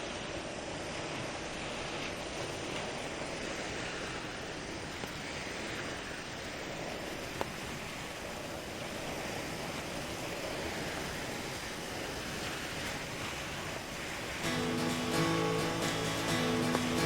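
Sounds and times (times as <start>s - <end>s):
small waves lapping at shore: 0.0s - 17.0s.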